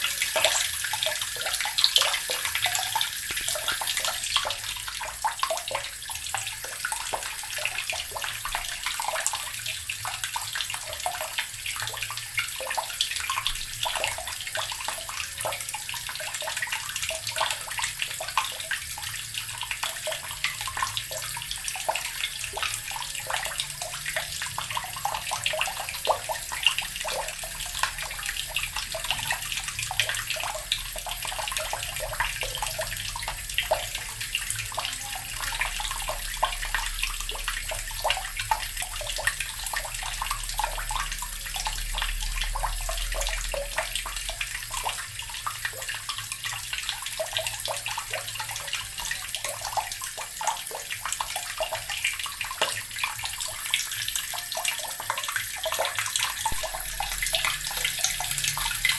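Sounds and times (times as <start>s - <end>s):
water running from a tap: 0.0s - 58.9s.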